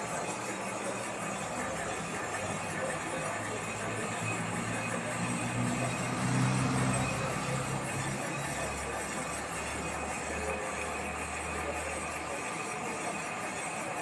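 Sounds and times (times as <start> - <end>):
machine tool machining metal: 0.0 - 14.0.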